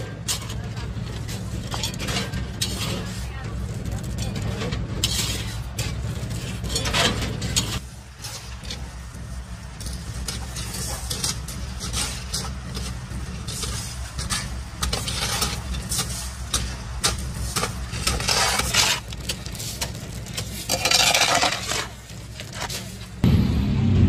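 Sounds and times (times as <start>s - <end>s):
low engine rumble: 0.0s - 20.8s, 21.9s - 24.0s.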